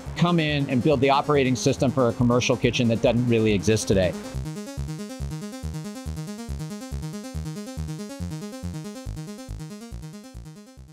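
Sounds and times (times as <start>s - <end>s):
electronic music with pulsing beat: 0.0s - 10.9s.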